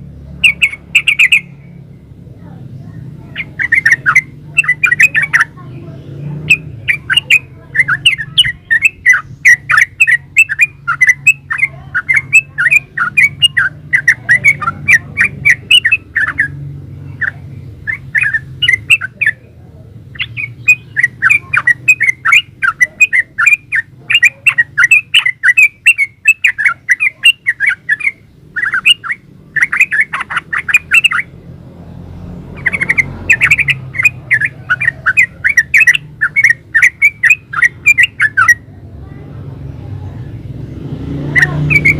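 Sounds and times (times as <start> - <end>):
bird singing chattering notes: 0.0 - 38.9, 39.6 - 41.9.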